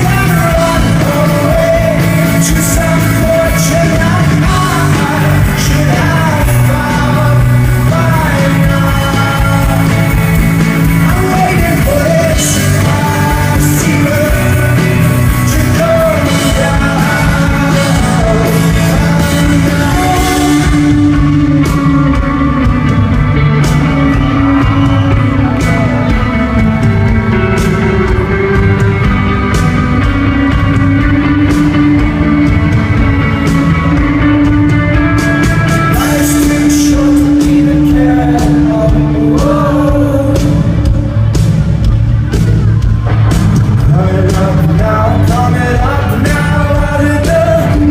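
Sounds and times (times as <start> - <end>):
person singing: 0.0 - 43.0, 43.8 - 47.9
live rock band playing: 0.0 - 47.9.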